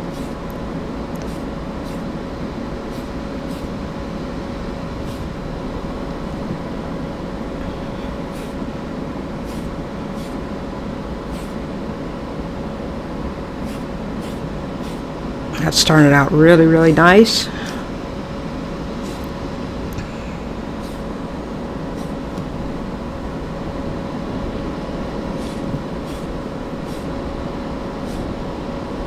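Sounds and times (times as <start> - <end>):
exhaust fan humming: 0.0 - 29.0.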